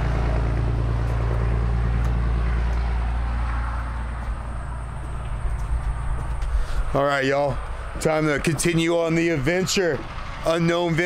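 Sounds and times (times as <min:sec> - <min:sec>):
passing vehicle engine rumble: 0:00.0 - 0:11.0.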